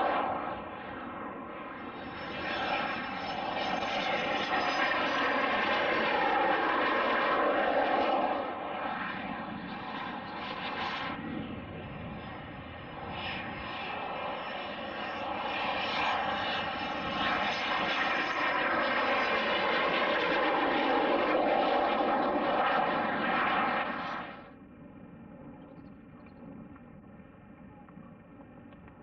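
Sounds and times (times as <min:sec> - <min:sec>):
airplane engines passing: 0:00.0 - 0:29.0.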